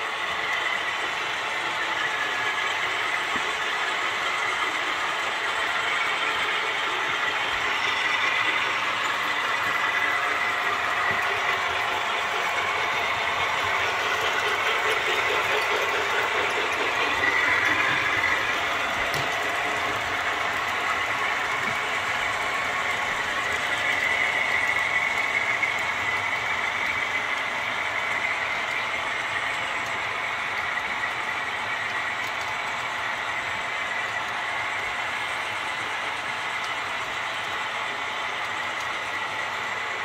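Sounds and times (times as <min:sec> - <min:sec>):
model train motors whirring: 0:00.0 - 0:40.0
wheels rolling on track: 0:00.0 - 0:40.0.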